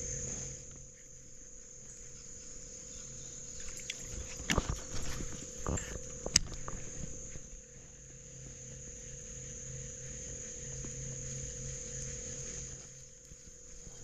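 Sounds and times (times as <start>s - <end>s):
faint low hum: 0.0s - 14.0s
insects trilling: 0.0s - 14.0s.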